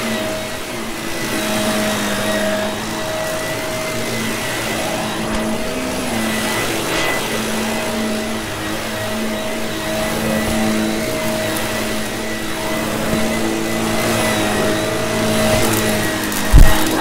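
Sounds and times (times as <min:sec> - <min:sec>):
vacuum cleaner motor running: 0:00.0 - 0:17.0.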